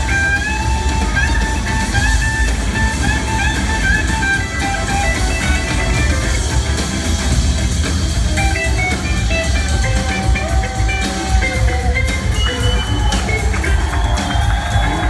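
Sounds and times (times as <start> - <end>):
bass guitar: 0.0 - 15.0
drum kit: 0.0 - 15.0
lead electric guitar: 0.0 - 15.0.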